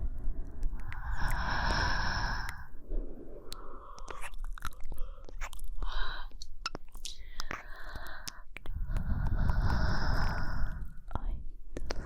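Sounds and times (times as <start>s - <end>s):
woman breathing close to microphone: 0.0s - 12.0s
wet mouth clicks: 0.5s - 1.8s, 3.4s - 12.0s.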